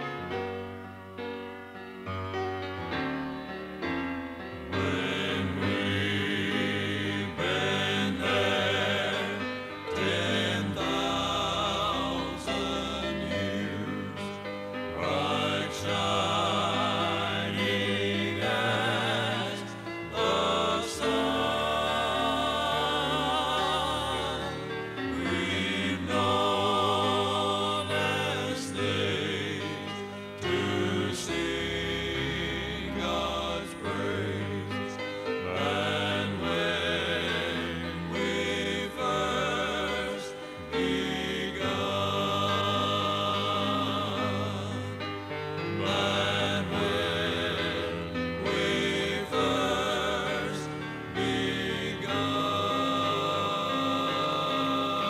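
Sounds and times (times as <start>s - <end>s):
gospel vocal group singing: 4.6s - 55.0s.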